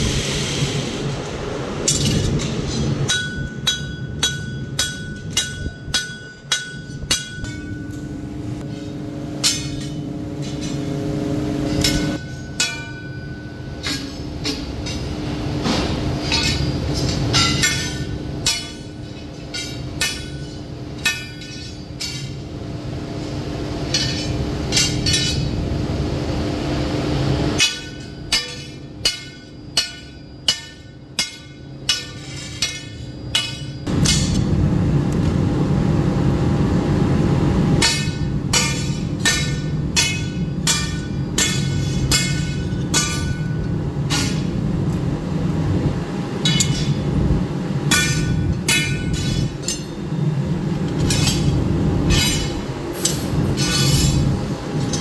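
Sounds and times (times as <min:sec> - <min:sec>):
workshop machinery running: 0:00.0 - 0:55.0.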